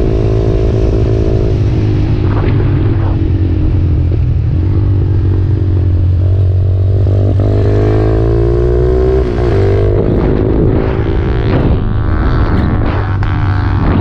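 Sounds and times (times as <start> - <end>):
motorcycle engine accelerating: 0.0 - 14.0
wind rush on microphone: 0.0 - 14.0.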